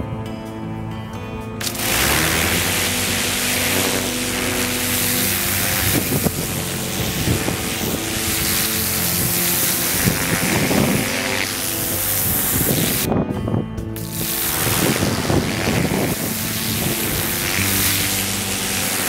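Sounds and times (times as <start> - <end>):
background music: 0.0 - 19.0
pressure washer water jet hissing: 1.6 - 13.1, 14.0 - 19.0.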